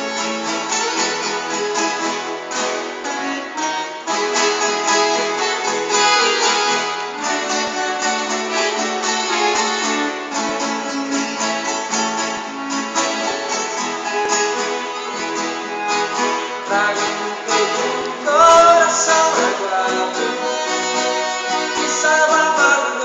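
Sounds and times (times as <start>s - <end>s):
accordion held notes: 0.0s - 23.0s
acoustic guitar strumming: 0.0s - 23.0s.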